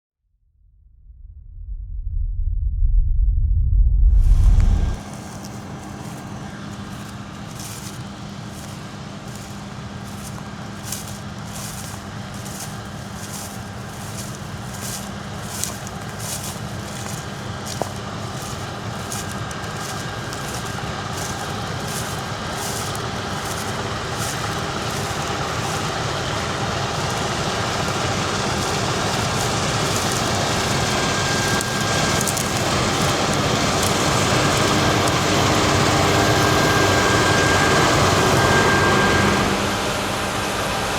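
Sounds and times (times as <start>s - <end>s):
heavy farm machinery engine: 4.2s - 40.9s.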